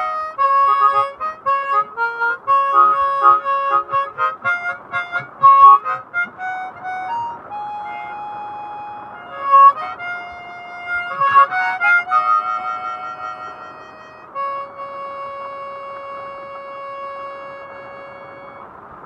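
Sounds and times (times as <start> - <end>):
chromatic harmonica melody: 0.0 - 18.8.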